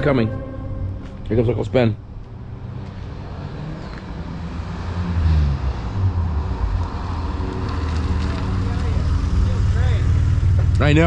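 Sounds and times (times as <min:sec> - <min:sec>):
car engine approaching: 0:00.0 - 0:11.0.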